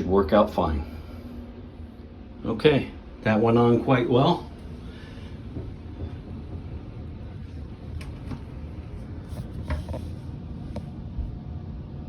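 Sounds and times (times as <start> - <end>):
steady low background rumble: 0.0 - 12.0.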